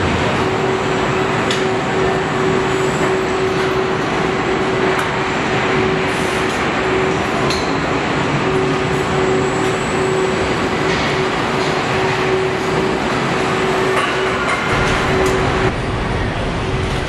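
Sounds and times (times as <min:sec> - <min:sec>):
assembly line machinery hum: 0:00.0 - 0:17.0.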